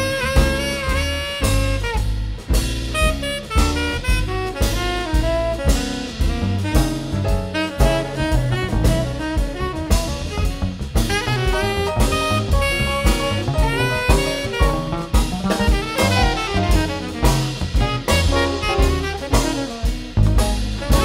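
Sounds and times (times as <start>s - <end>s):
jazz band playing: 0.0s - 21.0s.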